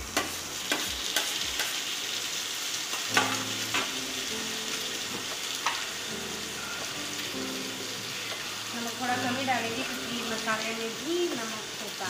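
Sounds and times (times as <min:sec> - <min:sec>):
vegetables sizzling in pan: 0:00.0 - 0:12.0.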